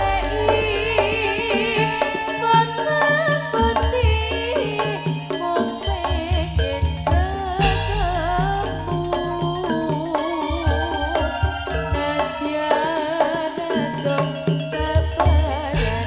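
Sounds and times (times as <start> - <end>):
drum and gong ensemble: 0.0 - 16.0
ornamented melody line: 0.0 - 16.0.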